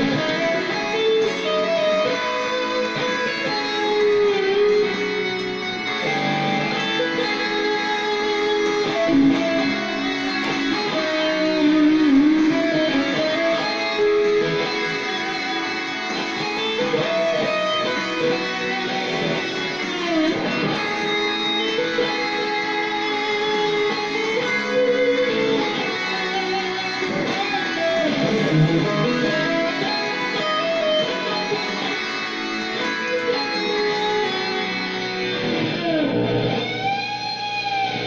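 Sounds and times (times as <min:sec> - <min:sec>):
electric guitar melody: 0:00.0 - 0:38.0.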